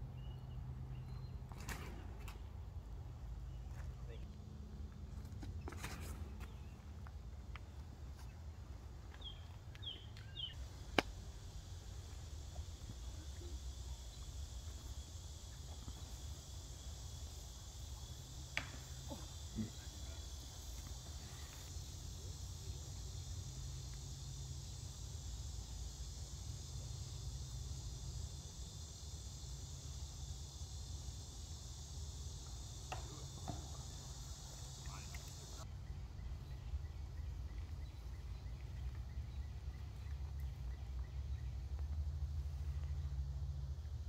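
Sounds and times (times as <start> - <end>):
insects chorus: 0.0 - 4.4, 5.0 - 44.0.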